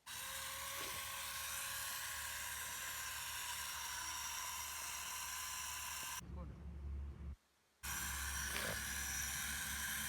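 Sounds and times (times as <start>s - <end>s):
small electric motor whining: 0.0s - 6.2s, 7.8s - 10.0s.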